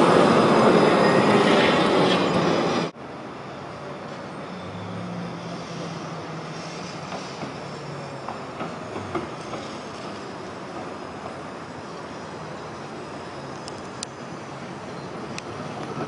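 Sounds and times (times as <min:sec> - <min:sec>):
tram over track junctions: 0:00.0 - 0:16.0
tram wheels running on rails: 0:00.0 - 0:16.0.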